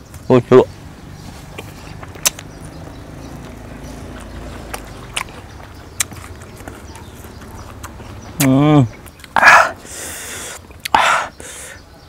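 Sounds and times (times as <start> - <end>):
person chewing crunchy fruit: 1.4 - 11.6.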